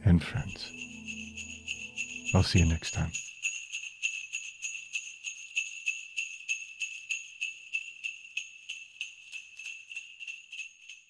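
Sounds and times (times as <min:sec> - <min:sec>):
sleigh bells shaken: 0:00.2 - 0:11.0.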